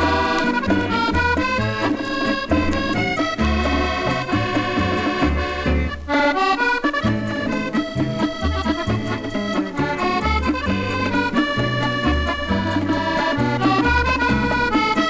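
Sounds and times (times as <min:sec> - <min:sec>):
accordion dance band music: 0:00.0 - 0:15.0.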